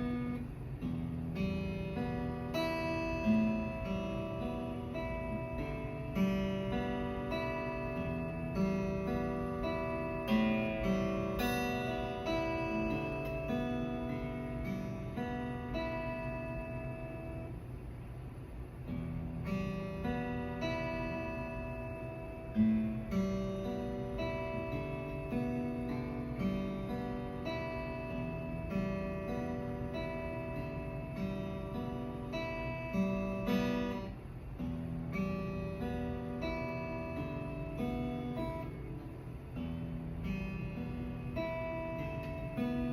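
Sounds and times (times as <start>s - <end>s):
acoustic guitar melody: 0.0s - 42.9s.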